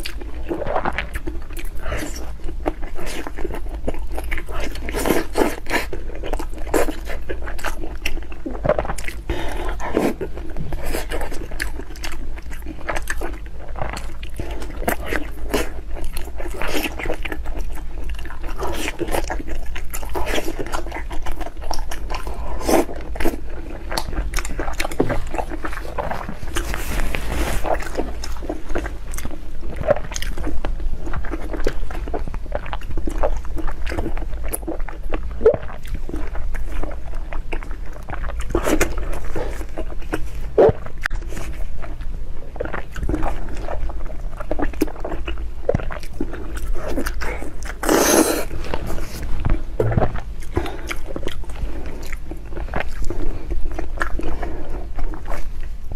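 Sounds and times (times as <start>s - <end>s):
biting and chewing: 0.0s - 55.9s
steady low hum: 0.0s - 55.9s.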